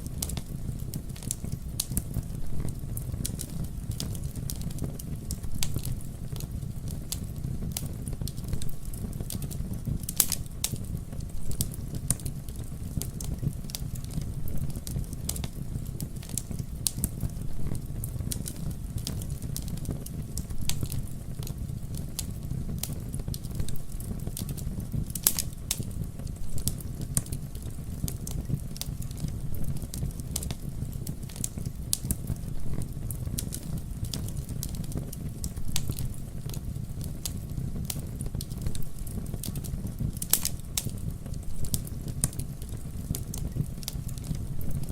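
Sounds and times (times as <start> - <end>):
fire snaps and pops: 0.0 - 44.9
wood fire crackling: 0.0 - 44.9.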